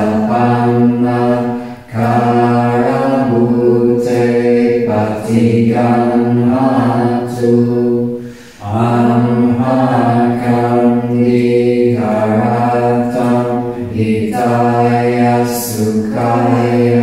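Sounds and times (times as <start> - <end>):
voices chanting a mantra: 0.0 - 17.0.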